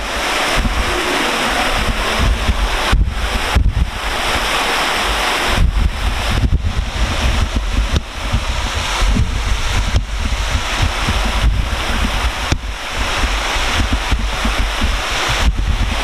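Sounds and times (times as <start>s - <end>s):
water pouring and splashing: 0.0s - 16.0s
wind buffeting microphone: 0.0s - 16.0s.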